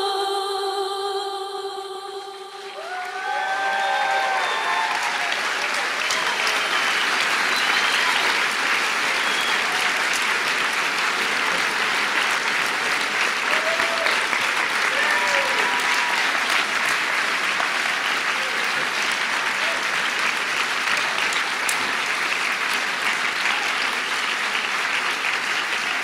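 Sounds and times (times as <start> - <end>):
audience applauding: 2.6 - 26.0.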